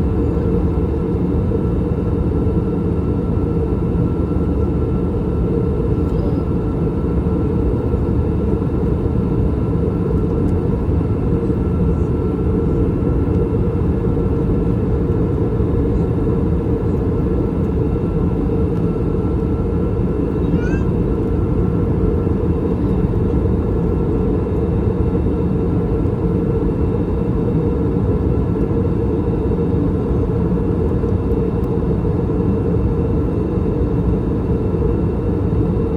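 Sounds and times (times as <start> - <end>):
airplane cabin engine rumble: 0.0 - 35.9
faint steady whines: 0.0 - 35.9.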